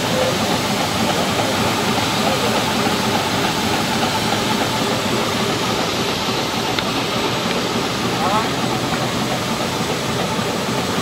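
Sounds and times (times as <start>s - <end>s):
fan blowing loudly: 0.0s - 11.0s
tractor engine running: 0.0s - 11.0s.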